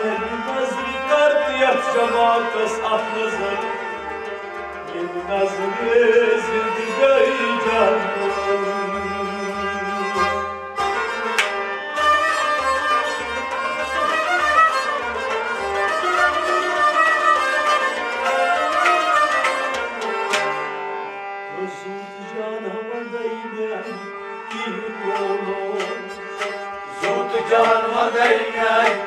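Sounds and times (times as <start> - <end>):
bowed string instrument: 0.0 - 29.0
harmonium: 0.0 - 29.0.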